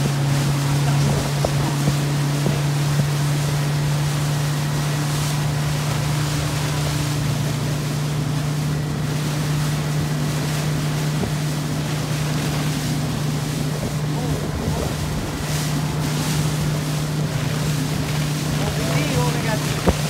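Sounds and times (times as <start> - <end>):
wind noise: 0.0 - 3.8, 5.6 - 20.0
motorboat engine humming: 0.0 - 20.0
rushing water: 0.0 - 20.0.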